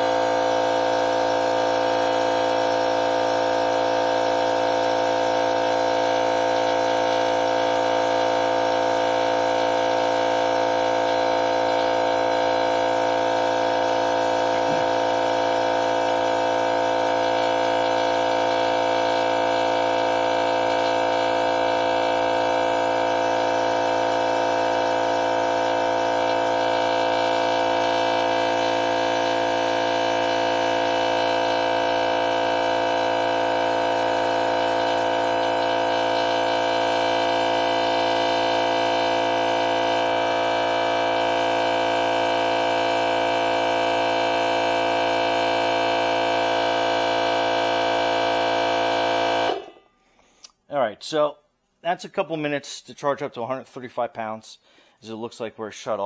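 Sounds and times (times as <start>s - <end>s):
air compressor humming: 0.0s - 50.5s.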